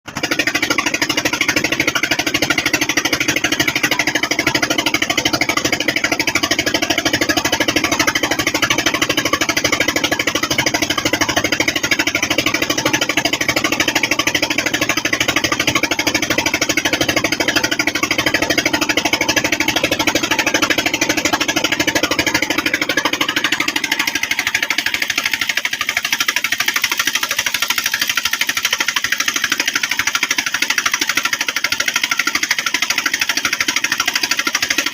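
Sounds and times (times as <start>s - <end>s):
boat engine knocking: 0.1s - 34.9s.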